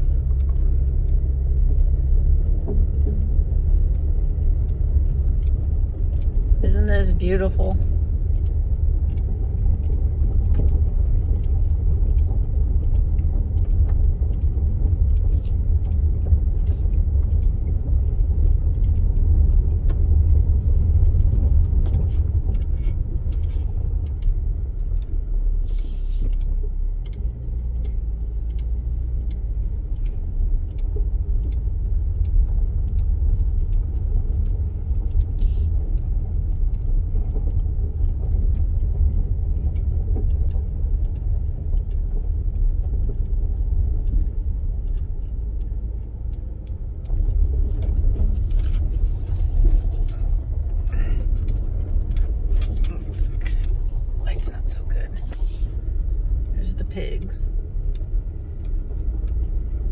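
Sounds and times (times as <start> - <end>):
small ticks and knocks: 0.0 - 6.6, 7.8 - 59.9
vehicle engine and road rumble: 0.0 - 59.9.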